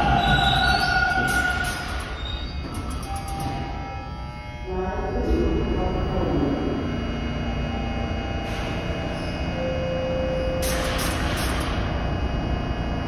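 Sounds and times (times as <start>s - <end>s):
subway train equipment hum: 0.0s - 13.0s.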